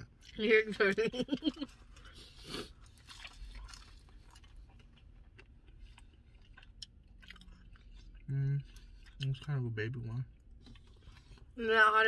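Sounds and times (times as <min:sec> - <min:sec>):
person chewing: 0:01.4 - 0:11.6.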